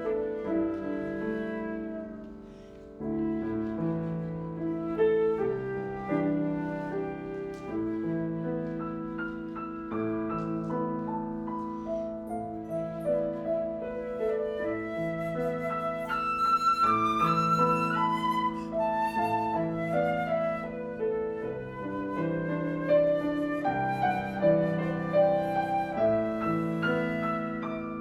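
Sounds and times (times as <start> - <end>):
flute playing slow melody: 0.0 - 28.0
repeating piano accompaniment: 0.0 - 28.0.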